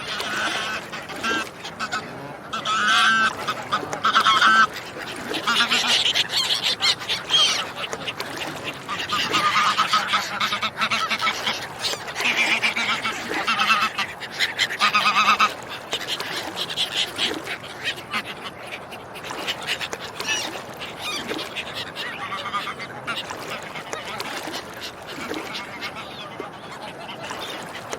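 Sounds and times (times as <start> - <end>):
ducks and swans calling: 0.0 - 27.9.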